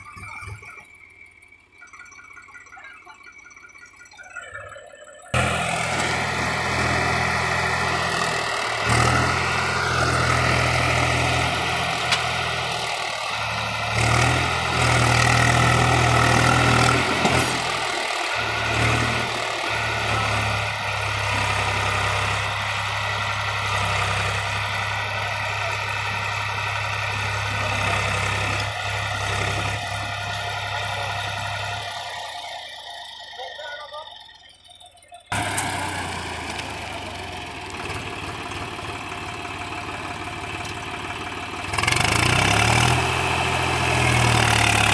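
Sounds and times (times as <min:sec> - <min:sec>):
tractor diesel engine revving: 0:04.6 - 0:44.9.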